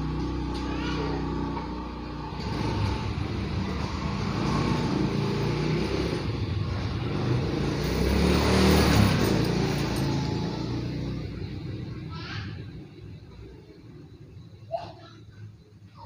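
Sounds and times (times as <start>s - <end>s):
vehicle engine passing by: 0.0s - 14.5s.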